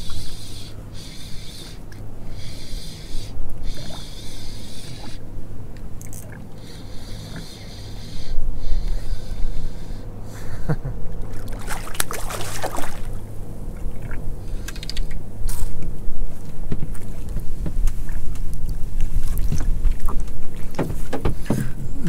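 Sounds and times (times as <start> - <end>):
boat low hum: 0.0 - 22.0.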